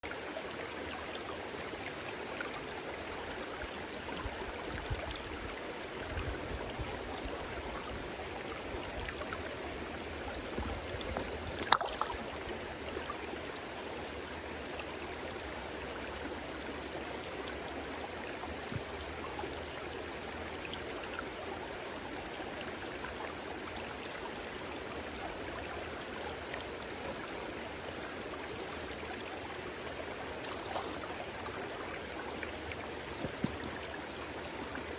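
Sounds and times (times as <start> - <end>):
stream water babbling: 0.0 - 34.9.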